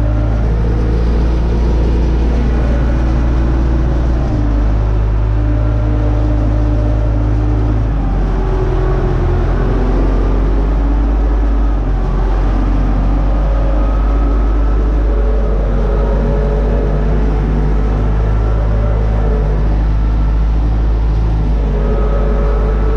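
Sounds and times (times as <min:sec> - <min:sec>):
tractor diesel engine drone: 0:00.0 - 0:22.9.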